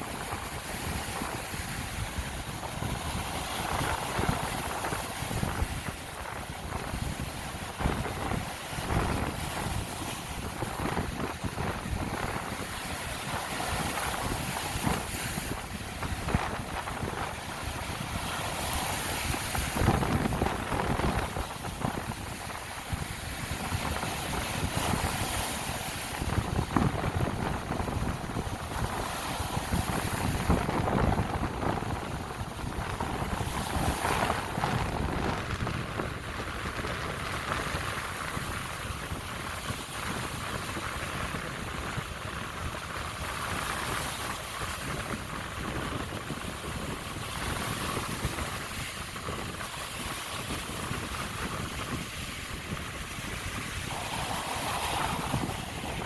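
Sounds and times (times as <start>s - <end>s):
waves washing onto beach: 0.0s - 56.0s
wind gusting across microphone: 0.0s - 56.0s.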